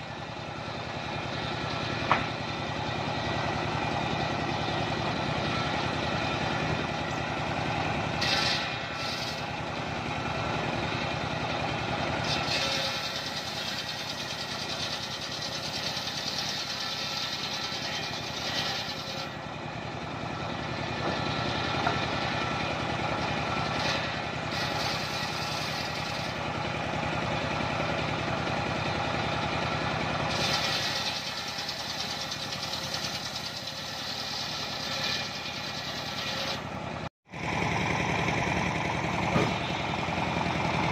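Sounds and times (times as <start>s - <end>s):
sawmill engine running: 0.0s - 40.9s
circular saw blade cutting wood: 0.9s - 26.6s, 30.0s - 37.1s.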